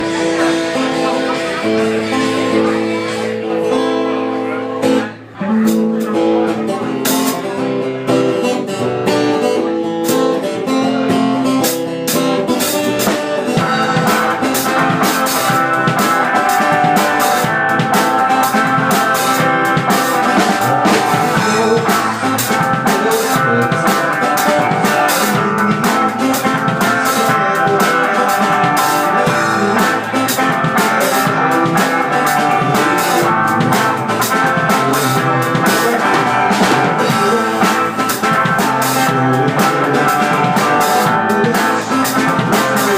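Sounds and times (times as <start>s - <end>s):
drum kit: 0.0s - 42.9s
guitar: 0.0s - 42.9s.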